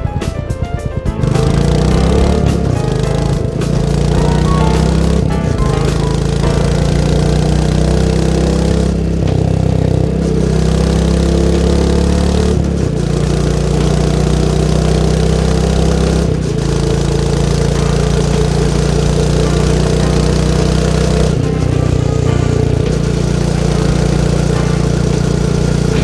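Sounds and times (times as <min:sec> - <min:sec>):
motorcycle engine running: 0:01.3 - 0:26.0.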